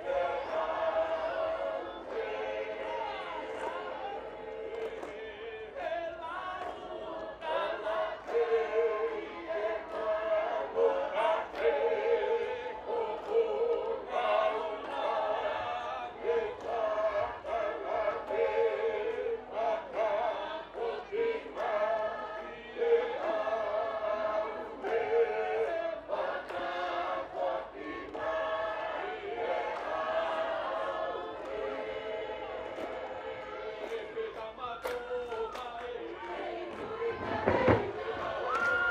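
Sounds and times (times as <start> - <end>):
choir singing and chanting: 0.0 - 38.9.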